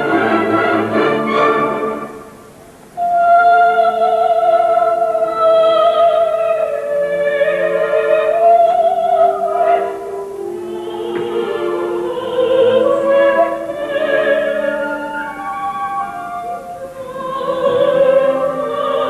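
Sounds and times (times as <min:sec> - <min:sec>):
classical accompaniment: 0:00.0 - 0:19.0
operatic singing: 0:03.0 - 0:19.0.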